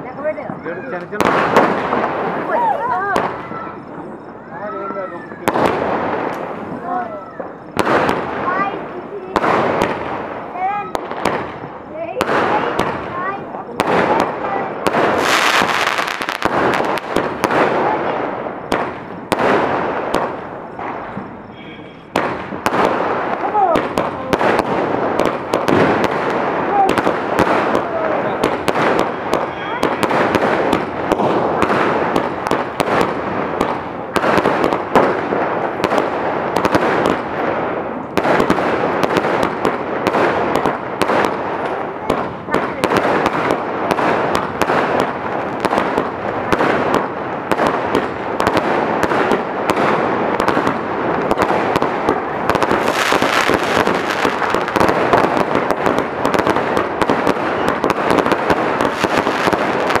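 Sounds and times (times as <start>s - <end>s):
firework crackling: 0.0s - 60.0s
firework launches and bursts: 5.4s - 21.5s, 22.1s - 60.0s.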